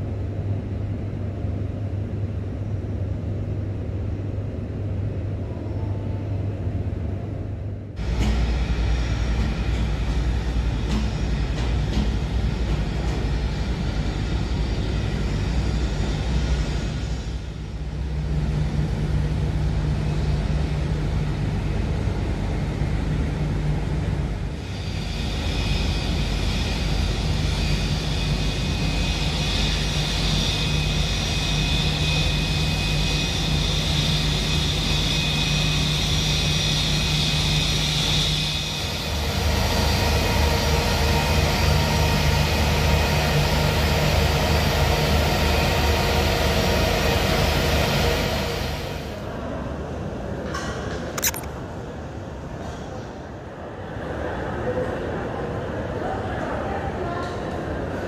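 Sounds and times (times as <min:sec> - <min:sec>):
jet engines low hum: 0:00.0 - 0:55.8
high jet engine whine: 0:00.0 - 0:56.8.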